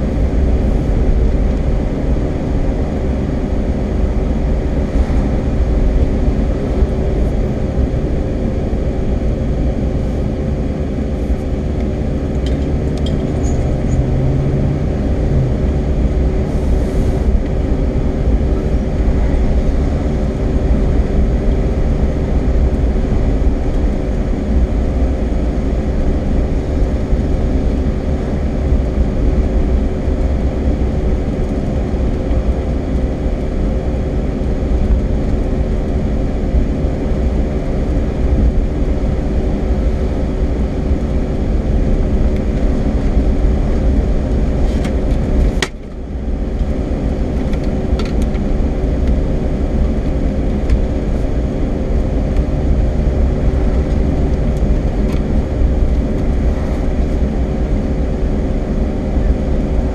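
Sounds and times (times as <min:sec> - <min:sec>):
car road and engine rumble: 0:00.0 - 0:59.9
faint constant hum: 0:00.0 - 0:59.9.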